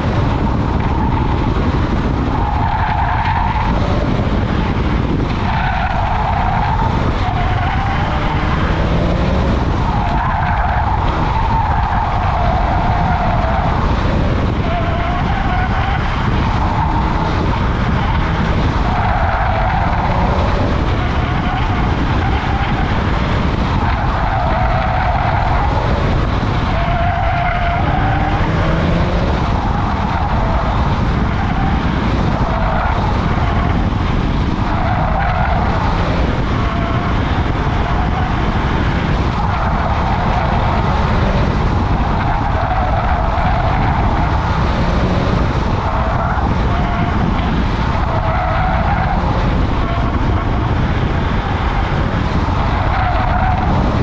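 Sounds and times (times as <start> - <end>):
road rumble: 0.0 - 54.0
tires squealing: 0.0 - 54.0
wind buffeting: 0.0 - 54.0.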